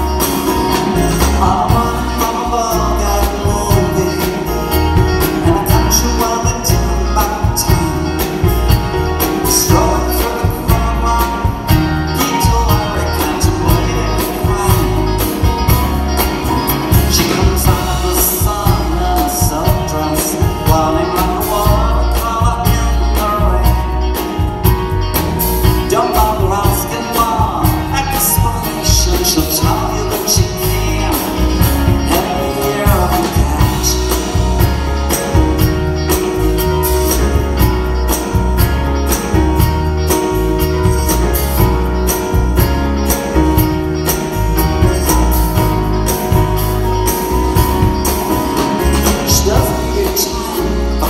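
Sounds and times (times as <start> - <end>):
acoustic guitar: 0.0 - 51.0
drums: 0.0 - 51.0
electric guitar: 0.0 - 51.0
keyboards: 0.0 - 51.0
live band playing: 0.0 - 51.0.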